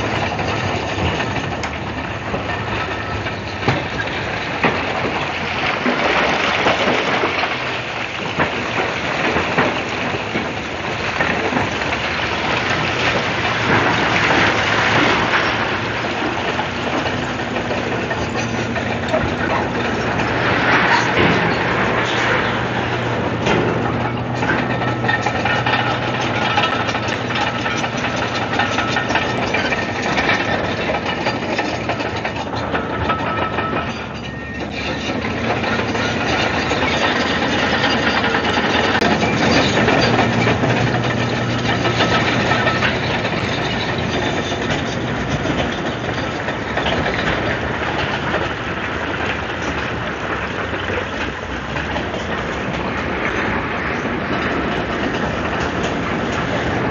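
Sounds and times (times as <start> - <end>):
bulldozer diesel engine running: 0.0 - 56.9
steel tracks clanking: 0.0 - 56.9.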